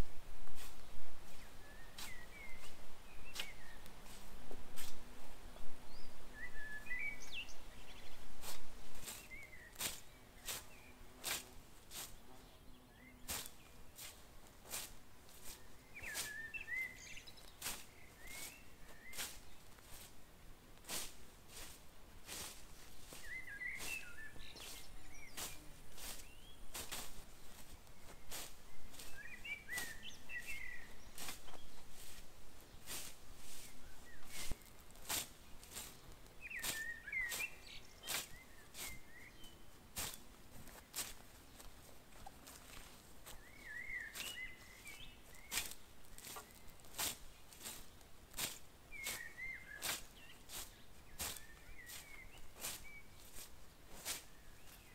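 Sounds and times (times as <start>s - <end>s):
blade swishing through plants: 0.4s - 5.1s, 7.3s - 12.5s, 13.2s - 20.2s, 20.8s - 54.9s
bird chirping: 1.3s - 3.9s, 5.9s - 19.8s, 22.3s - 54.9s.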